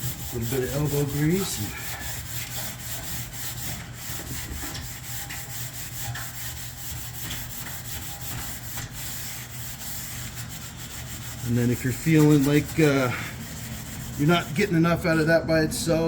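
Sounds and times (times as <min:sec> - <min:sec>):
abrasive pad scrubbing metal tube: 0:00.0 - 0:15.3.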